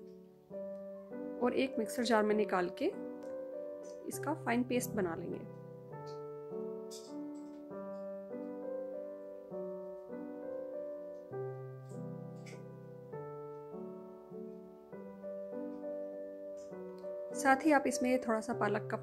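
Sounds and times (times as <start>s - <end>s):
keyboard chords: 0.0s - 19.0s.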